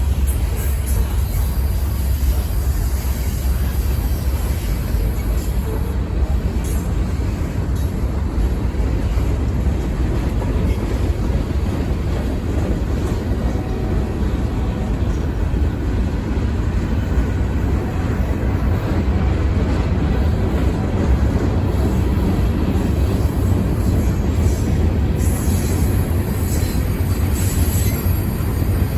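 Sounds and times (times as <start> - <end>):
train cars rumbling on rails: 0.0 - 28.9.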